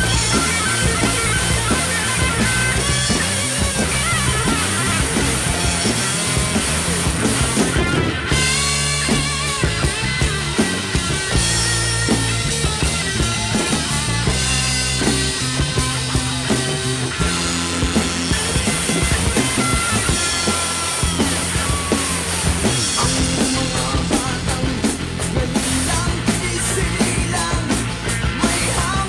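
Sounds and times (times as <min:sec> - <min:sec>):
drum kit playing: 0:00.0 - 0:29.0
rock band music: 0:00.0 - 0:29.0.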